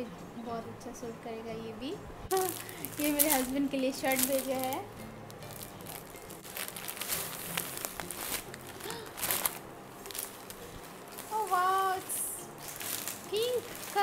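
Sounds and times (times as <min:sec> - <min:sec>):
plastic bags crinkling: 0:02.3 - 0:14.0.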